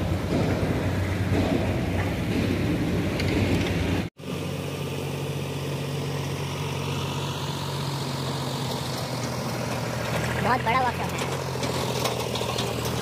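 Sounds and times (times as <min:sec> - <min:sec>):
engine humming at idle: 0:00.0 - 0:13.0
heavy engine rumbling: 0:00.0 - 0:13.0.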